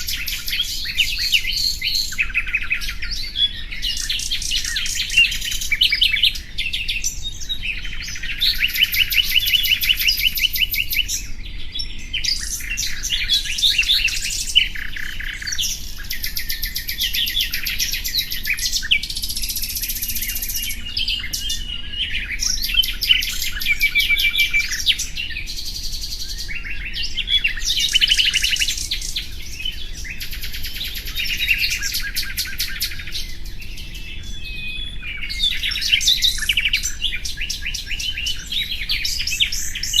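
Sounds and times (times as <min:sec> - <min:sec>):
nightingale singing: 0:00.0 - 0:40.0.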